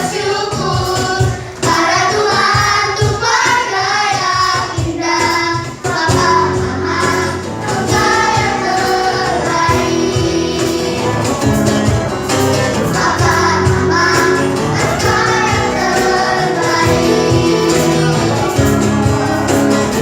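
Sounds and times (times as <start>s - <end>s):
instrumental accompaniment: 0.0s - 20.0s
young voices singing together: 0.0s - 20.0s.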